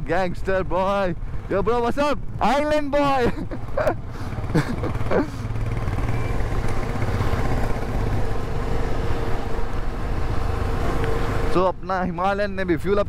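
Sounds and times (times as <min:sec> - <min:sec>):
motorcycle engine running: 0:00.5 - 0:12.2.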